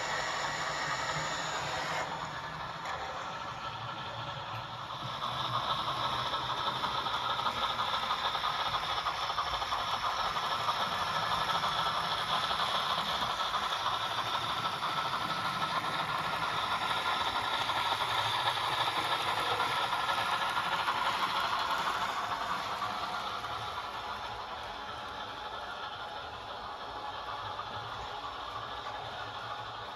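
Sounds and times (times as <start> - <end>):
model train rattling: 0.0 - 29.9.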